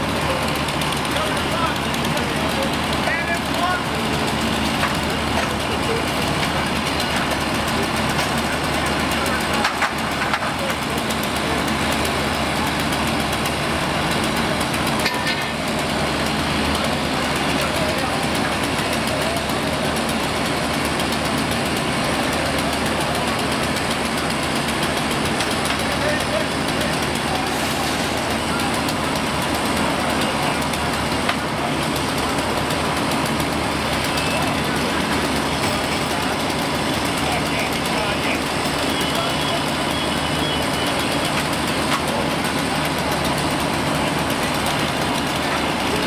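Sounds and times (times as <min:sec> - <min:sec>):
fire engine running: 0:00.0 - 0:46.0.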